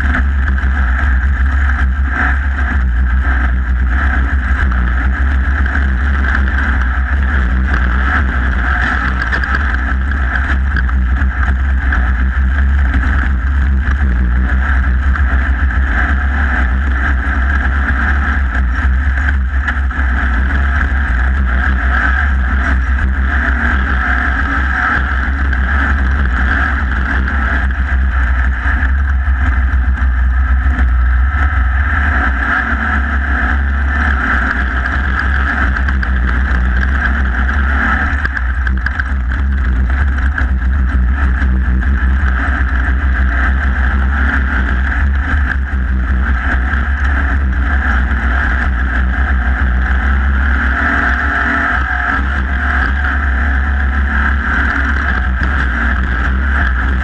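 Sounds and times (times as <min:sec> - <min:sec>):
race car engine running: 0:00.0 - 0:57.0
wind rumbling on microphone: 0:00.0 - 0:57.0.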